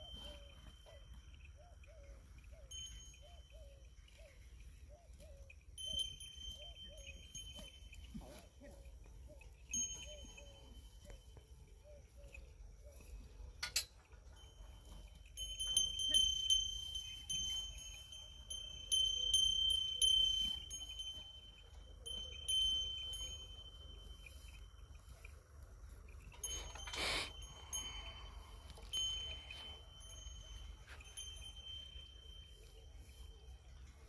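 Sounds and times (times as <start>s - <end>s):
metal bells ringing: 0.0s - 4.6s, 5.5s - 12.4s, 13.5s - 34.0s.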